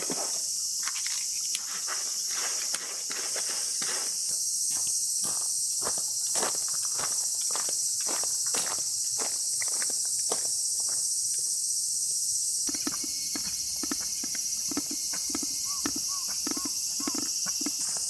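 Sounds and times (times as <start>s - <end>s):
chorus of insects: 0.0s - 18.0s.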